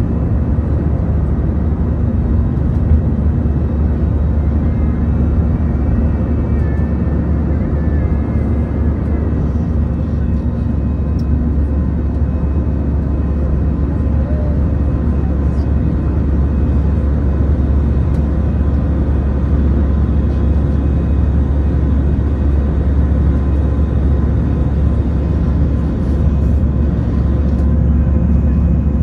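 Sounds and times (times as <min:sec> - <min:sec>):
jet engines roaring in cabin: 0:00.0 - 0:29.0.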